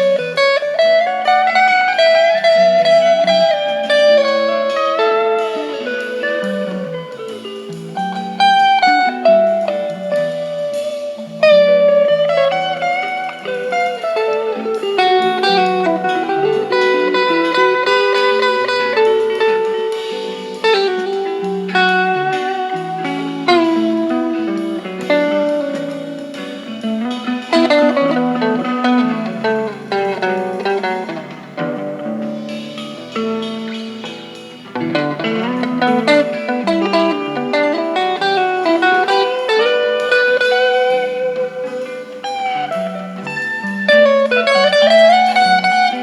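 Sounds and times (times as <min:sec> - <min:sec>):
band backing track: 0:00.0 - 0:46.0
electric guitar lead line: 0:00.0 - 0:46.0.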